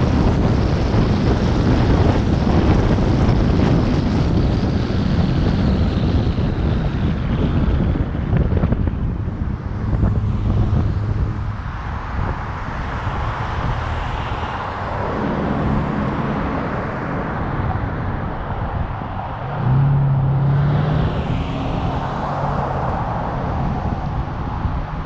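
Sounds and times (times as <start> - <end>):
car engine: 0.0 - 25.0
road noise: 0.0 - 25.0.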